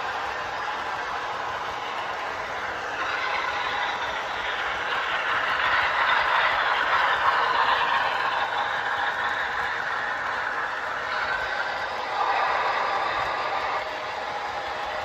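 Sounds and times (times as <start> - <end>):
model trains rolling on track: 0.0 - 15.0.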